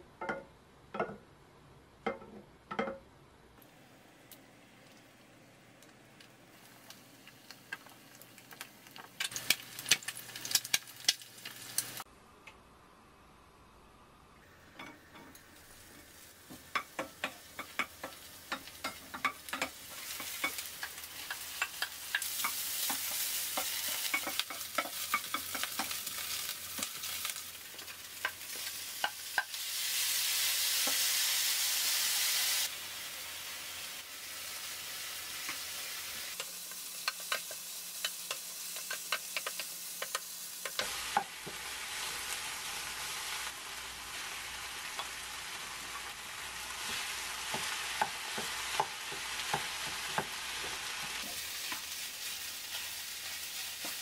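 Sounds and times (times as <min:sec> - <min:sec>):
food sizzling in a pan: 0:03.6 - 0:12.1, 0:14.4 - 0:54.0.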